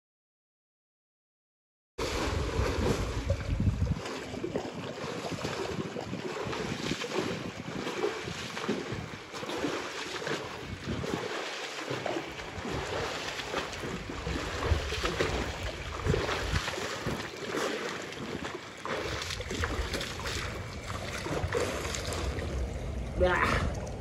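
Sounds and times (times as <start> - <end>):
swimmer splashing water: 2.0 - 24.0.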